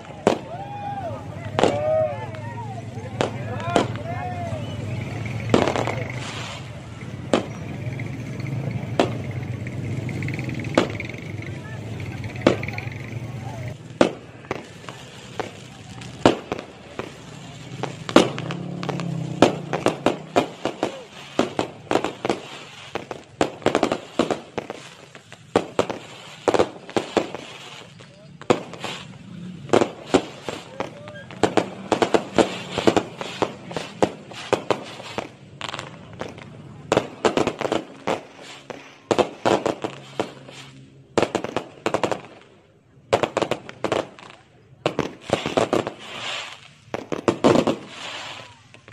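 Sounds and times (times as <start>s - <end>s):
fireworks bangs and cracks: 0.0s - 48.9s.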